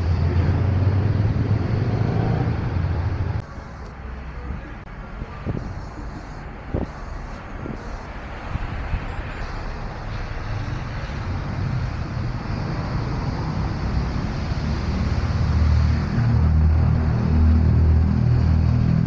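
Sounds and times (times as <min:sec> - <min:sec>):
street traffic noise: 0:00.0 - 0:19.0
vehicle engine rumble: 0:00.0 - 0:19.0.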